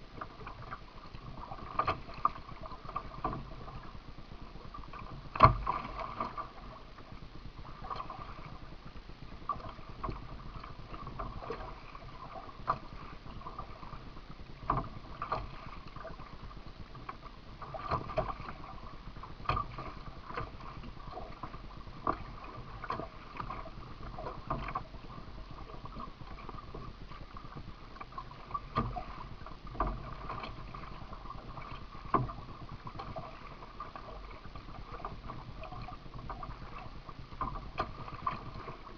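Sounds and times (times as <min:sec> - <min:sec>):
paddle blades splashing: 0:00.0 - 0:38.9
steady wash of water: 0:00.0 - 0:38.9.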